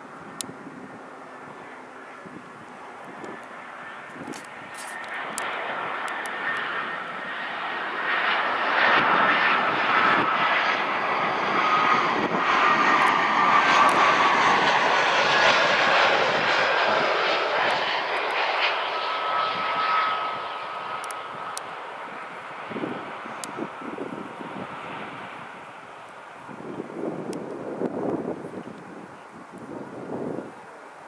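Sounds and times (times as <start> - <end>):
jet airliner engines passing overhead: 0.0 - 31.0.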